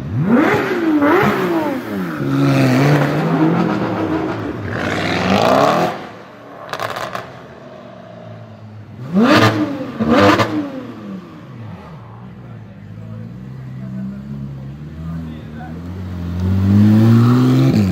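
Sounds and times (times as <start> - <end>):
sports car engine revving: 0.0 - 17.9.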